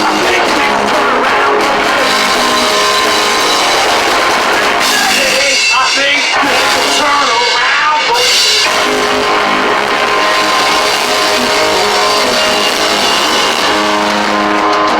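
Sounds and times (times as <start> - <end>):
rock-blues band playing: 0.0 - 14.9.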